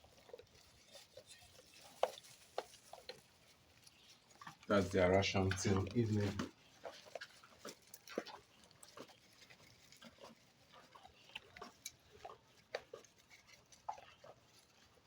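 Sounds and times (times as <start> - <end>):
goats crunching feed: 0.0 - 15.0.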